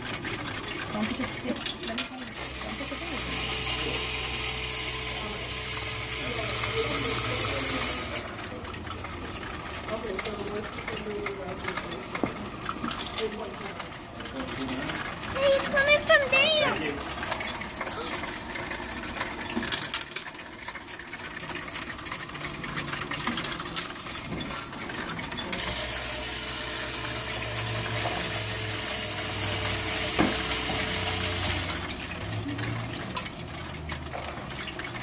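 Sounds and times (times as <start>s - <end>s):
coins clattering through machine: 0.0s - 35.0s.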